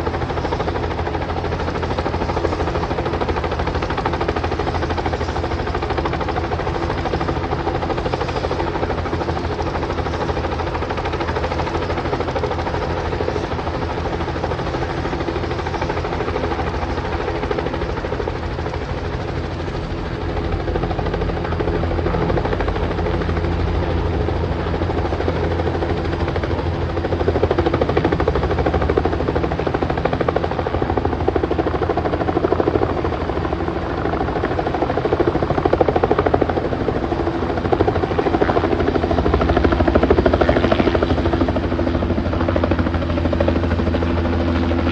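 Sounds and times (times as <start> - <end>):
helicopter turbine and rotor: 0.0 - 44.9.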